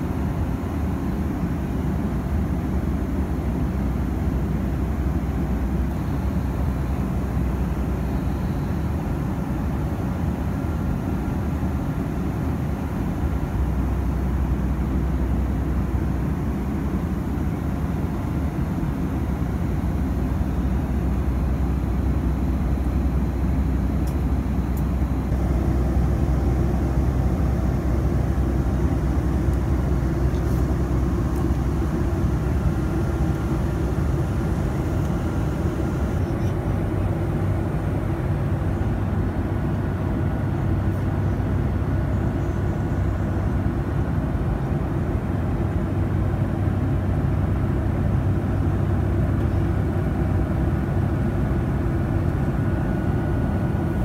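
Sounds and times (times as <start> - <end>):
jet engine cabin rumble: 0.0 - 54.0.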